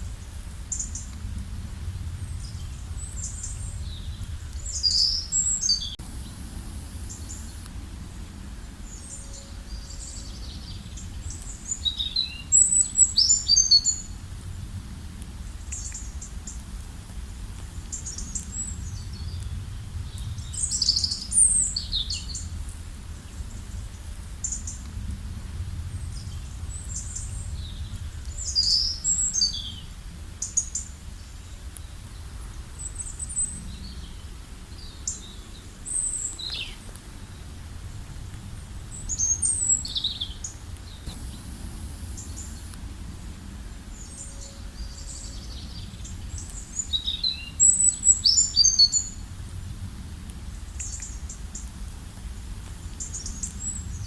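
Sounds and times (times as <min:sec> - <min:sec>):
songbirds chirping: 0:00.0 - 0:14.6, 0:17.4 - 0:49.3
steady low rumble: 0:00.0 - 0:48.4, 0:49.0 - 0:54.0.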